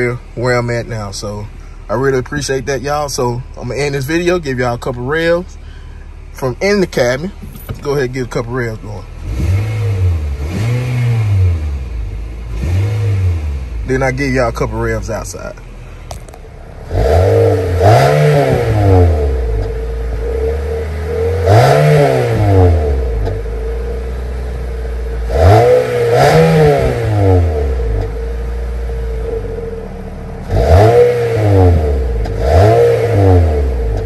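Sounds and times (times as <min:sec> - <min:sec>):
car engine revving from idle: 0:00.0 - 0:34.0.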